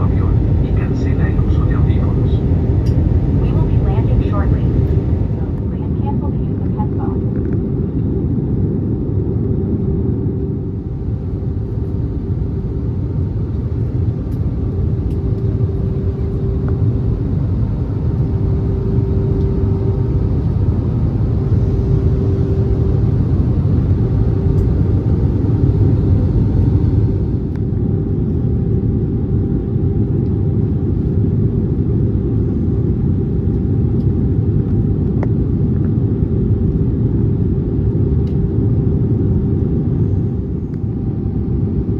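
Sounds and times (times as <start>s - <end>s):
aircraft cabin engine rumble: 0.0s - 41.9s
constant hum: 0.0s - 41.9s.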